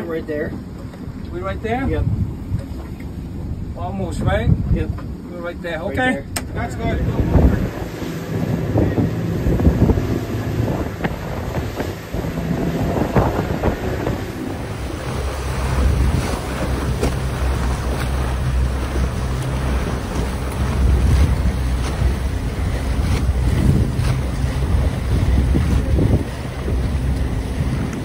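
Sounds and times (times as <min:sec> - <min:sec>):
wind buffeting microphone: 0:00.0 - 0:05.3, 0:05.9 - 0:28.0
boat motor humming: 0:00.0 - 0:28.0
water splashing against hull: 0:00.0 - 0:28.0.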